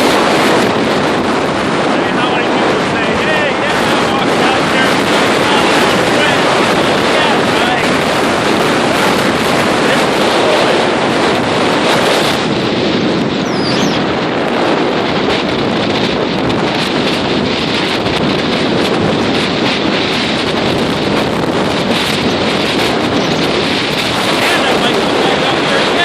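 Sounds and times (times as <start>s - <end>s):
waves breaking against a pier: 0.0s - 26.0s
wind buffeting microphone: 0.0s - 26.0s.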